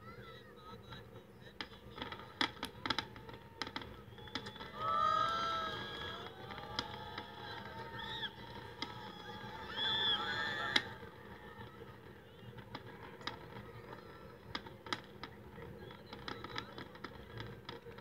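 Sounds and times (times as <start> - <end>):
steady background hum: 0.0 - 14.5
fireworks pops and cracks: 0.8 - 18.0.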